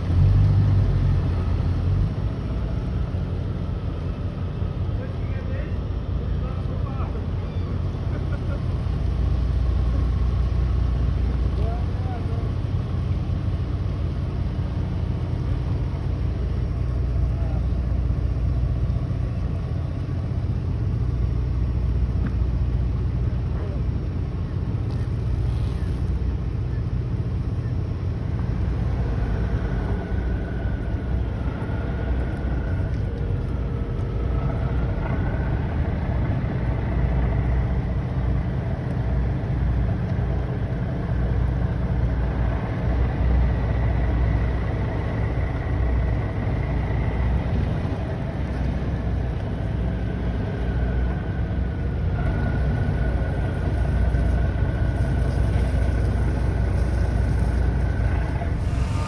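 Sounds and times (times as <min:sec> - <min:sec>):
engine idling low rumble: 0:00.0 - 0:59.0
faint high whine: 0:00.0 - 0:59.0.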